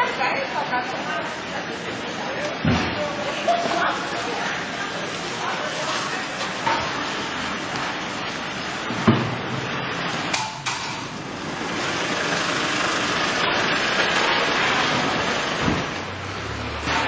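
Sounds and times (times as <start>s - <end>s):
rain falling: 0.2s - 10.4s, 11.0s - 17.0s.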